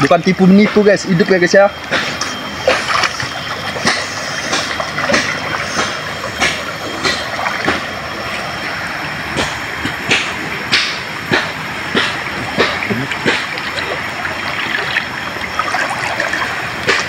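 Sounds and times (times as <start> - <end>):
water splashes: 0.4 - 17.0.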